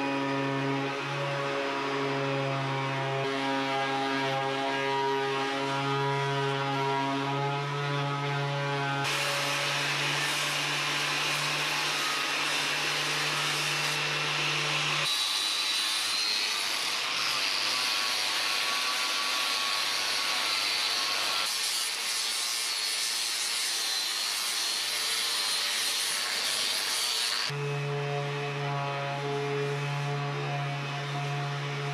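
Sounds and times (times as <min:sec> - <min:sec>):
orbital sander on wood: 0:00.0 - 0:31.9.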